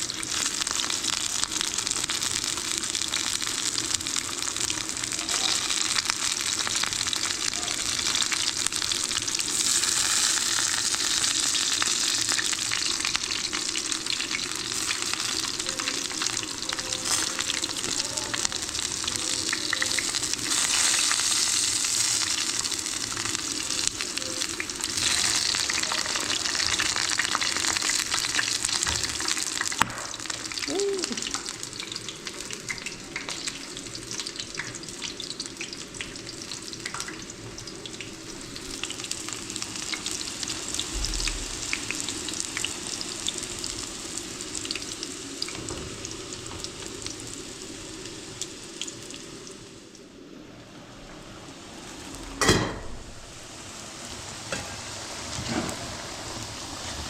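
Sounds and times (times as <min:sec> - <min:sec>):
food sizzling in hot oil: 0:00.0 - 0:50.3, 0:50.9 - 0:57.0.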